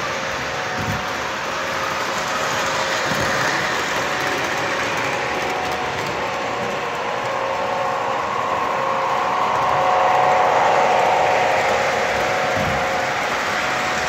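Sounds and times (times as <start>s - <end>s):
train wheels rattling on rails: 0.0s - 14.0s.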